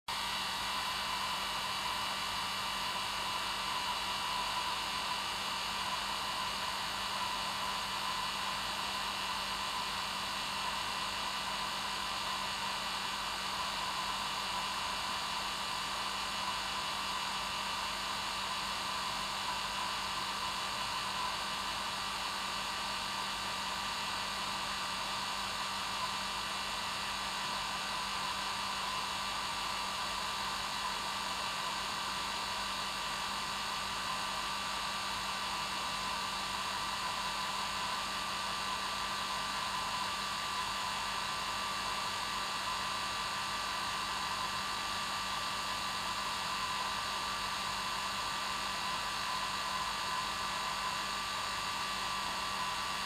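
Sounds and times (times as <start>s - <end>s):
hair dryer running: 0.1s - 53.0s.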